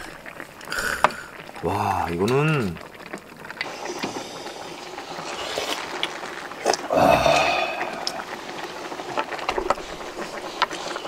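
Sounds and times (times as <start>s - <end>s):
slurping hot broth: 0.0s - 1.7s, 2.8s - 11.0s.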